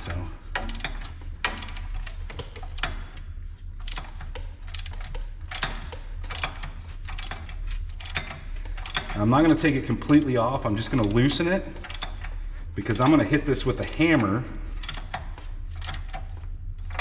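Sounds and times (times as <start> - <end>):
hand ratchet clicking: 0.0 - 17.0.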